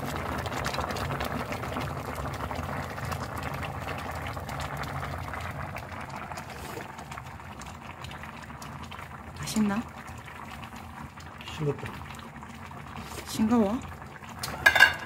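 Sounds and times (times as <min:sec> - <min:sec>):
stew bubbling at a boil: 0:00.0 - 0:15.0.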